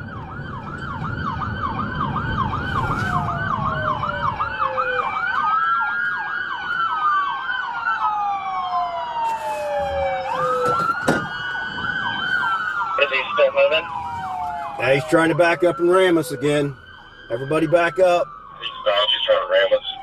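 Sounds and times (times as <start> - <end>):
police siren yelp: 0.0 - 20.0
police sirens wailing: 0.0 - 20.0.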